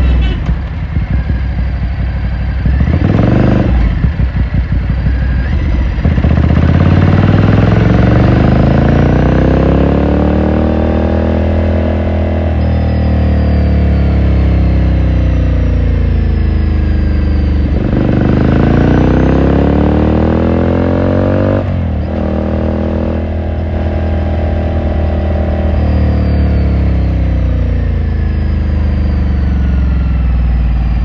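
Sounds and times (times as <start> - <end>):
motorcycle engine and exhaust: 0.0 - 31.0.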